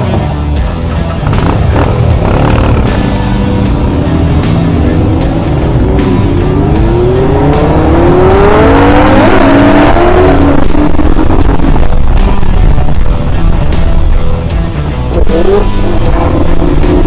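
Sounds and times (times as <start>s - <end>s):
music with steady beat: 0.0s - 17.0s.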